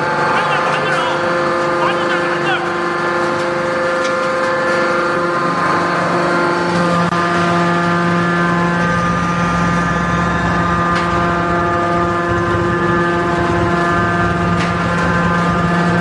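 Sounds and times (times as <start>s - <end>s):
deeper hum: 0.0s - 16.0s
hydraulic pump whine: 0.0s - 16.0s
mechanical hum: 0.0s - 16.0s.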